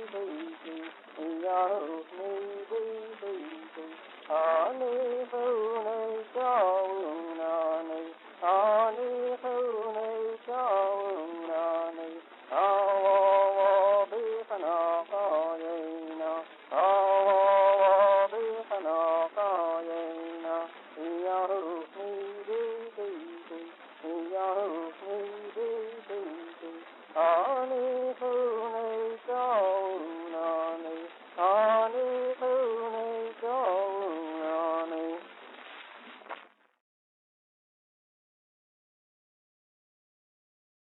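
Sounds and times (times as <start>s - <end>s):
person singing wordless notes: 0.0s - 35.2s.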